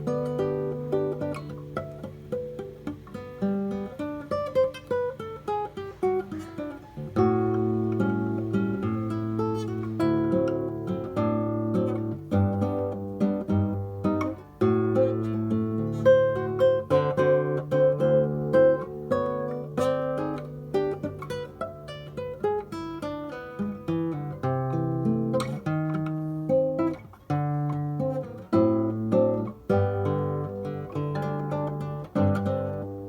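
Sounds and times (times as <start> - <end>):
acoustic guitar plucked melody: 0.0 - 33.0.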